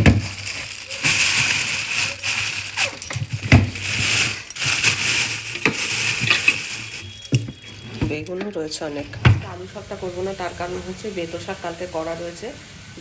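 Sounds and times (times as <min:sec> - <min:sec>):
plastic bags rustling: 0:00.0 - 0:11.0.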